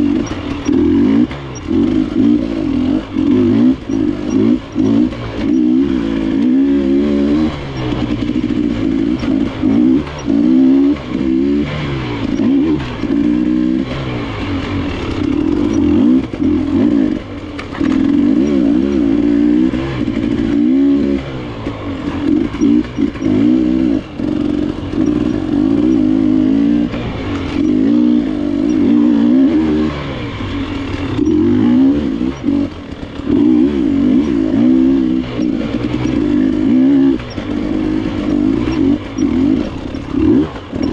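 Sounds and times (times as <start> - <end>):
bike rattling: 0.0 - 40.9
dirt bike engine revving: 0.0 - 40.9.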